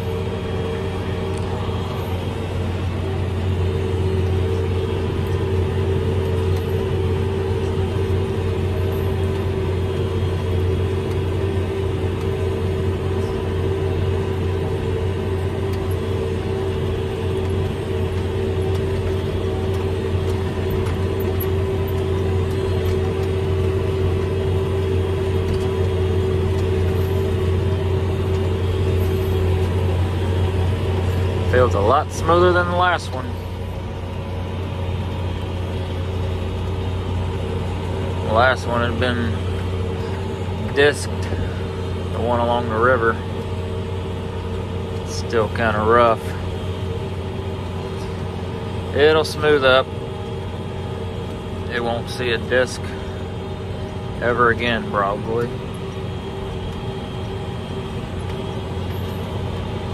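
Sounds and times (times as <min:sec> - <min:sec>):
steady whine: 0:00.0 - 0:59.9
tractor engine drone: 0:00.0 - 0:59.9.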